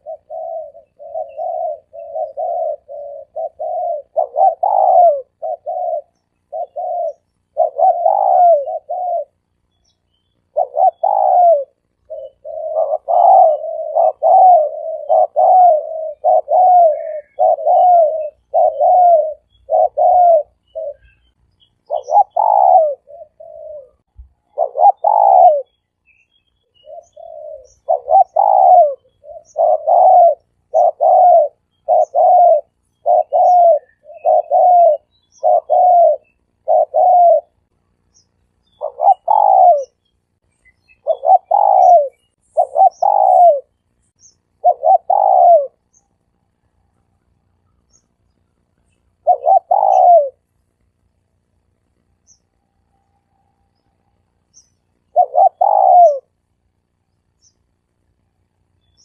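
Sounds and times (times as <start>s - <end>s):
dove cooing: 0.0s - 25.8s, 26.7s - 57.0s.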